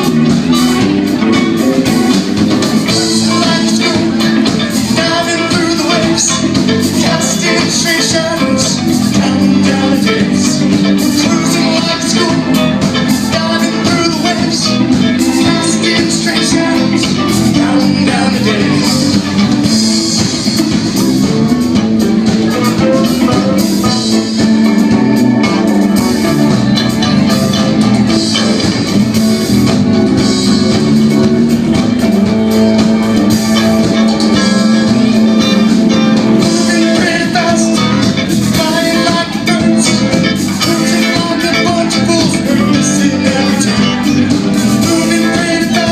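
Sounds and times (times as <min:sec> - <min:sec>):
electric guitar: 0:00.0 - 0:45.9
live band playing: 0:00.0 - 0:45.9
steady drum beat: 0:00.0 - 0:45.9.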